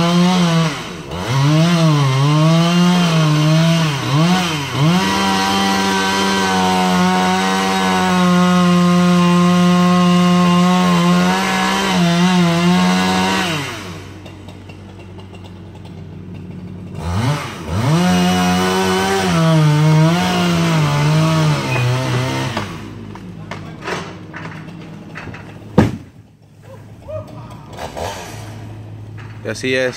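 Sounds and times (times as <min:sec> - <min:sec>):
chainsaw cutting: 0:00.0 - 0:29.5.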